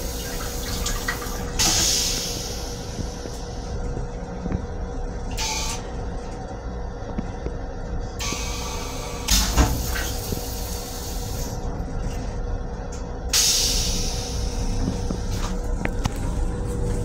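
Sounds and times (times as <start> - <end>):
steady hum: 0.0 - 17.0
train rumble: 0.0 - 17.0.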